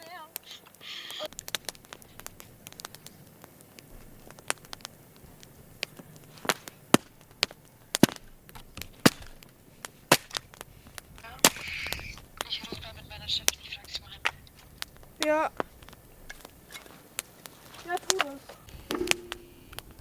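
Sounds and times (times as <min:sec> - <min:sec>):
campfire wood crackling and popping: 0:00.0 - 0:20.0.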